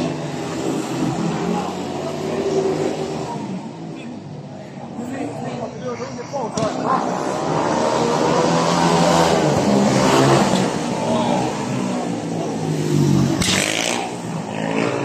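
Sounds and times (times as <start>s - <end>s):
motorcycle engines racing: 0.0s - 15.0s.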